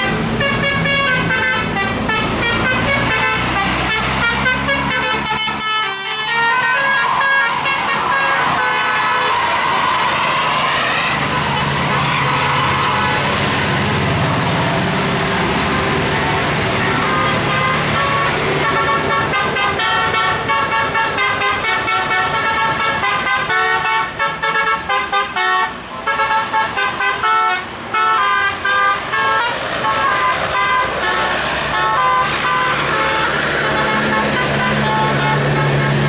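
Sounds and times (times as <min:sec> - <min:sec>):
musical air horn playing a tune: 0:00.0 - 0:15.2, 0:16.1 - 0:36.0
bus engine hum: 0:00.0 - 0:36.0.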